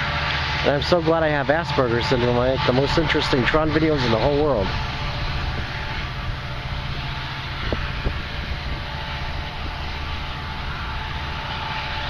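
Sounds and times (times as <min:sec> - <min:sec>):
outdoor rumble and hiss: 0:00.0 - 0:12.0
wind buffeting microphone: 0:00.8 - 0:12.0.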